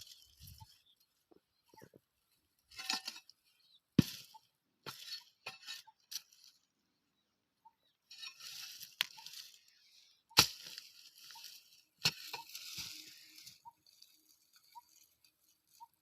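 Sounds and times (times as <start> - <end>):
soil and plants rustling: 0.0 - 6.8, 8.0 - 16.0.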